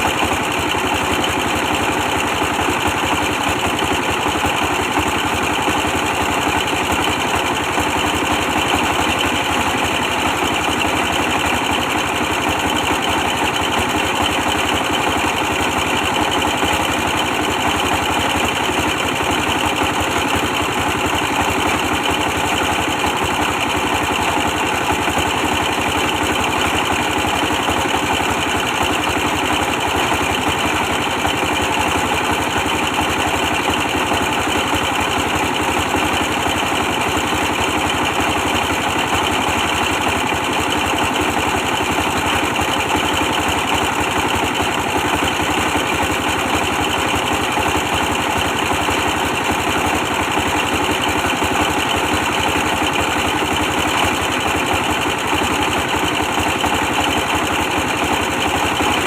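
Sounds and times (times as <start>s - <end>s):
brick press machine: 0.0s - 59.0s.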